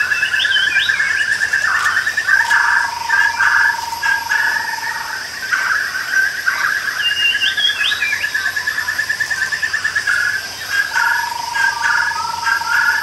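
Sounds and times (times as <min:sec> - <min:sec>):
high insect hiss: 0:00.0 - 0:13.0
insects trilling: 0:00.0 - 0:13.0.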